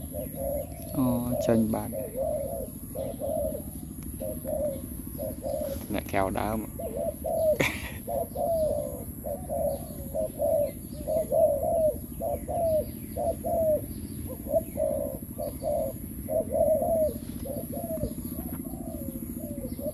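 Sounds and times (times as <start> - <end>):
doves cooing: 0.0 - 19.9
small birds chirping: 0.0 - 19.9
steady low hum: 0.0 - 19.9.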